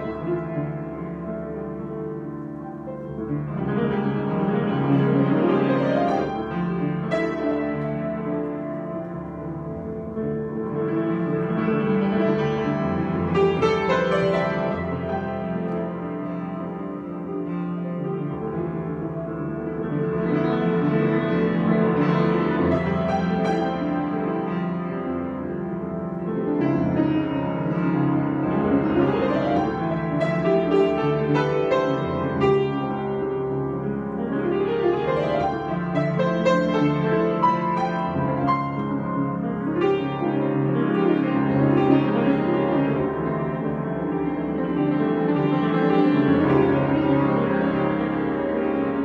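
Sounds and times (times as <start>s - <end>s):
solo piano improvisation: 0.0s - 49.0s.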